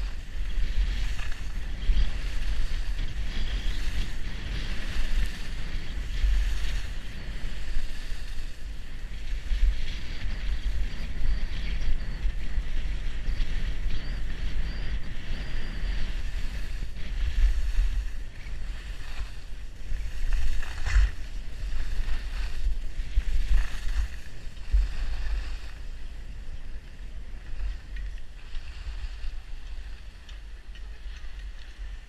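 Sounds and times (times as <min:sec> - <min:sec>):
skis sliding on snow: 0:00.0 - 0:32.0
wind on microphone: 0:00.0 - 0:32.0.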